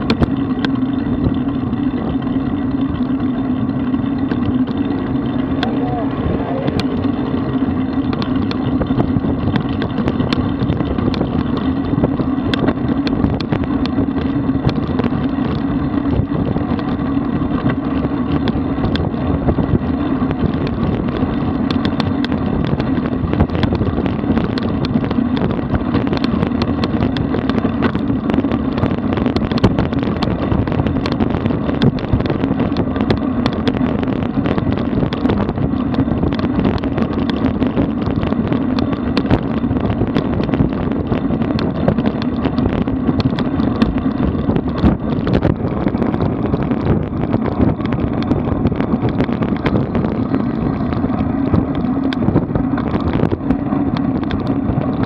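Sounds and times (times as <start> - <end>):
small ticks and rattles: 0.0 - 5.7, 6.7 - 55.0
bike tyres rolling on asphalt: 0.0 - 55.0
wind rushing over microphone: 0.0 - 55.0.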